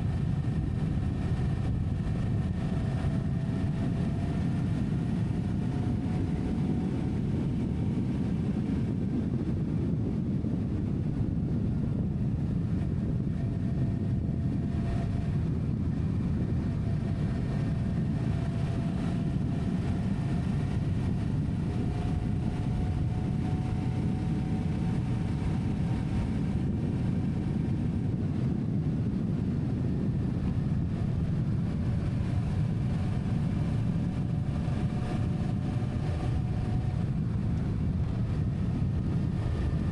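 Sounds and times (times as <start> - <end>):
vehicle rumble: 0.0 - 39.9.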